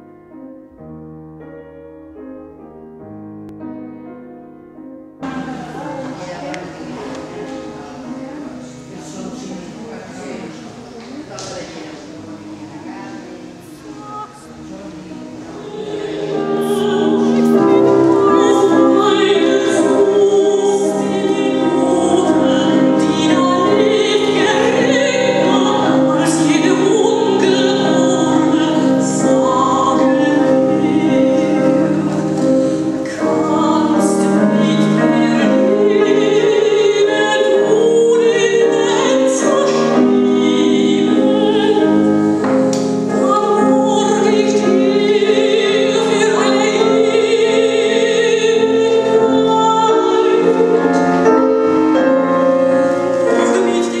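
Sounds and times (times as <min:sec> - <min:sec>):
classical vocal music: 0:04.8 - 0:54.0.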